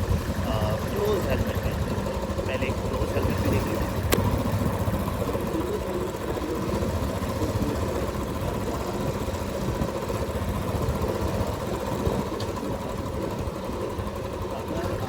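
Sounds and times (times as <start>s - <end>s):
engine idling: 0.0s - 15.0s
street traffic: 0.0s - 15.0s.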